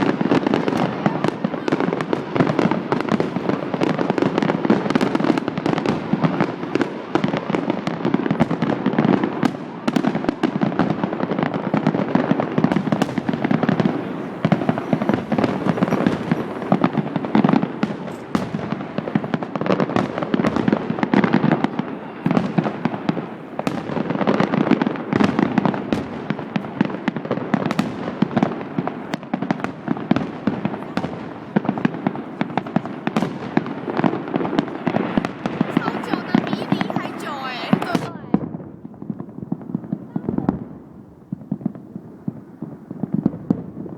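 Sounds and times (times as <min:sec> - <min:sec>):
fireworks bursts and crackles: 0:00.0 - 0:43.9
sharp fireworks bangs: 0:00.0 - 0:43.9.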